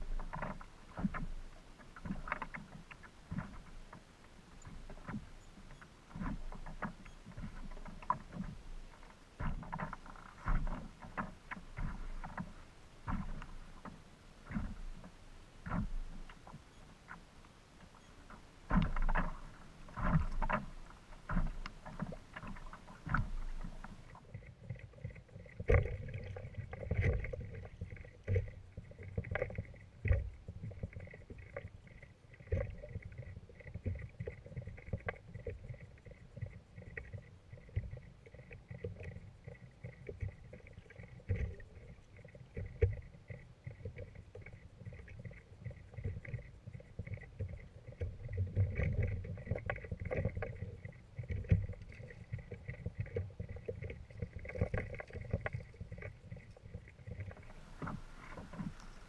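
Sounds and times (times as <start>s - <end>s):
water slapping against hull: 0.0s - 59.0s.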